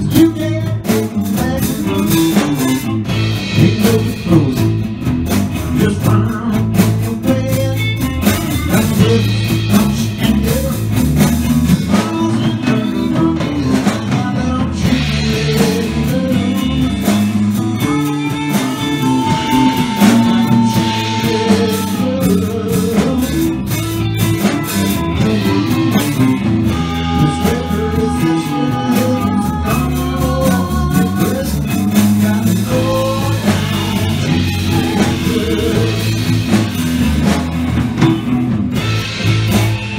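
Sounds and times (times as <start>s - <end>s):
person singing: 0.0s - 4.9s, 5.6s - 37.4s
bass guitar: 0.0s - 39.9s
drum kit: 0.0s - 39.9s
electric guitar: 0.0s - 39.9s.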